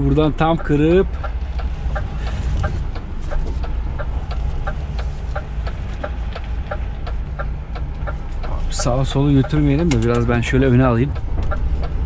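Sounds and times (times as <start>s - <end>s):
diesel engine at low revs: 0.0s - 12.0s
rhythmic ticking: 0.0s - 12.0s.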